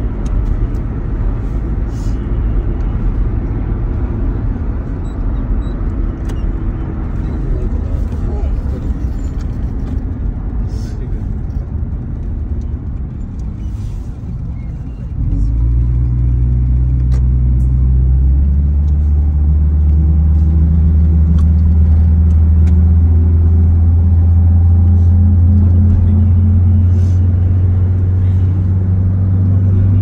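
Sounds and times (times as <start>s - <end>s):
van engine and road noise: 0.0s - 30.0s.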